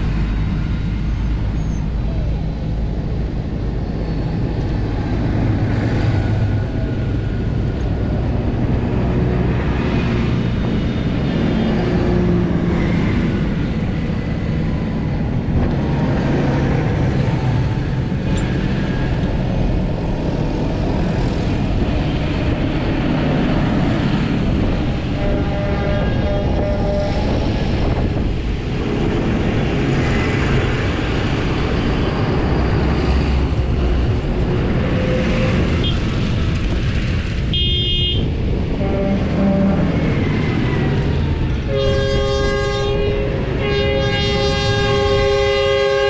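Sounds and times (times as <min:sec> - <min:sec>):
tyres rolling on road: 0:00.0 - 0:41.9
tractor diesel engines passing: 0:00.0 - 0:46.0.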